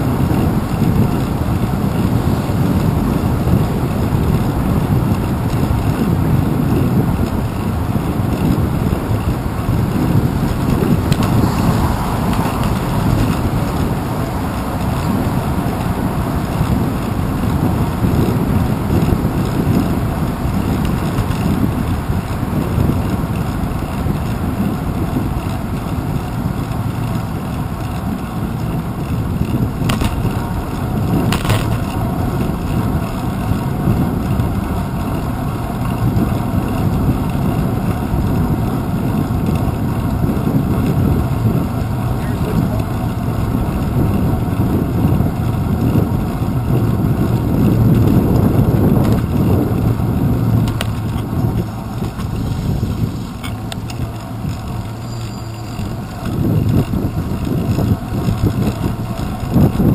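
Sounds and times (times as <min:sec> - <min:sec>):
bicycle road rumble: 0:00.0 - 0:59.9
wind noise: 0:00.0 - 0:59.9.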